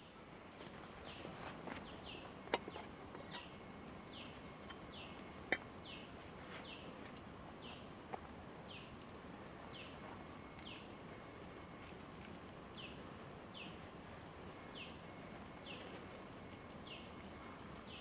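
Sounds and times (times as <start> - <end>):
forest background noise: 0.0 - 18.0.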